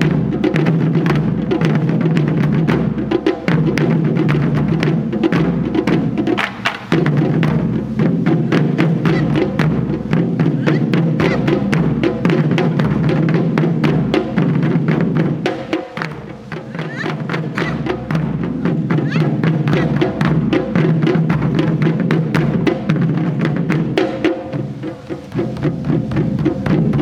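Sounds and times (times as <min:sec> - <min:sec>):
taiko drum ensemble playing: 0:00.0 - 0:27.0.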